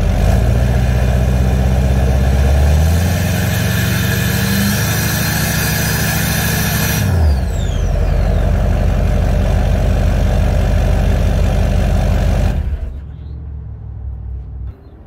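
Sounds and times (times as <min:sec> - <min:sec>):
diesel engine idling: 0:00.0 - 0:14.6.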